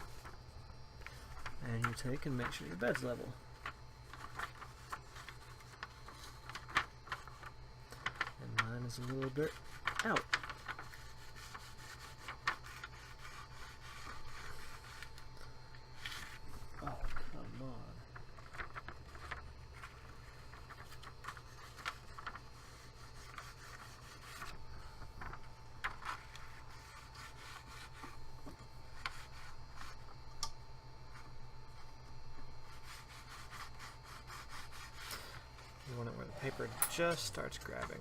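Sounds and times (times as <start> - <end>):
steady hum: 0.0 - 38.0
paper rubbing and sliding: 1.0 - 30.2, 31.1 - 38.0.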